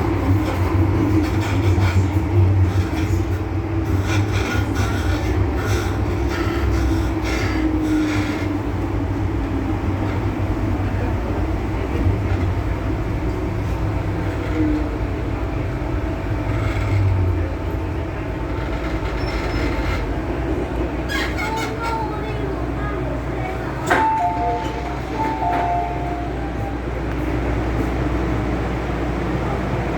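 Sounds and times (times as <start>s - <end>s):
train rumbling: 0.0s - 29.9s.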